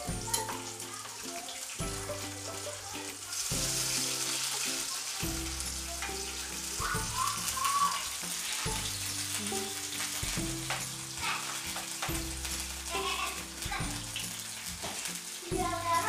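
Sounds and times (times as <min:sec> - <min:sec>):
background music: 0:00.0 - 0:16.0
deep-frying sizzle: 0:00.0 - 0:16.0.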